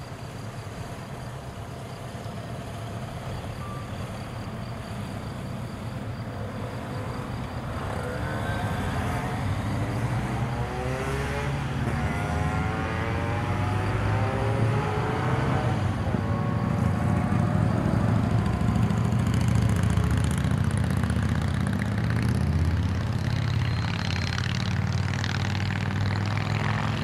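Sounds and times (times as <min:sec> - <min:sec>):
diesel locomotive engine throttling up: 0:00.0 - 0:10.6, 0:15.7 - 0:27.0.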